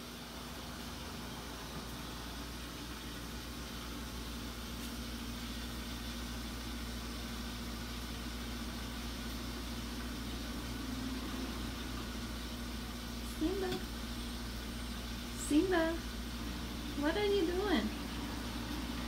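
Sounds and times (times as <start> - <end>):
constant hiss: 0.0 - 19.0
mechanical hum: 0.0 - 19.0.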